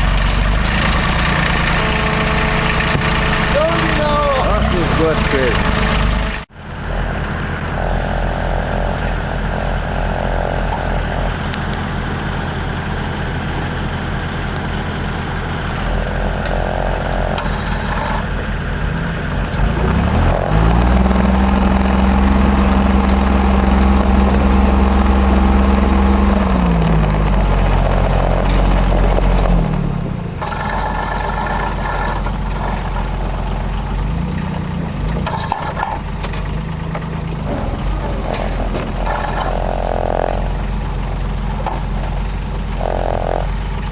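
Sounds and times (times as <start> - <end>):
diesel engine revving under load: 0.0 - 43.9.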